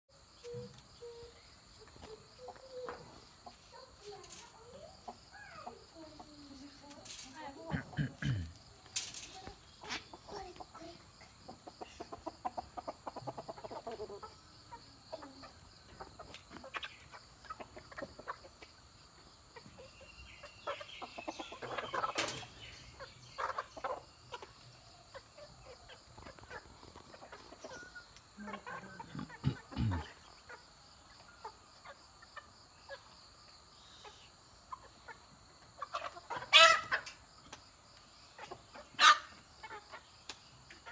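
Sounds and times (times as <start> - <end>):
chickens clucking: 0.2 - 40.9.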